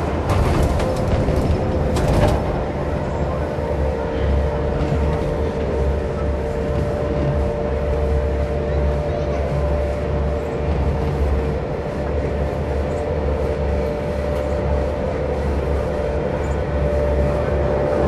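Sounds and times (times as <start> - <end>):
constant hum: 0.0 - 18.0
gondola cabin rumble: 0.0 - 18.0.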